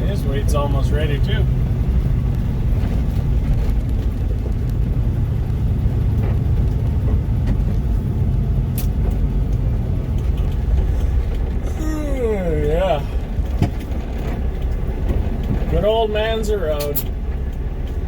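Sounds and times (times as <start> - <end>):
truck diesel engine drone: 0.0 - 18.0.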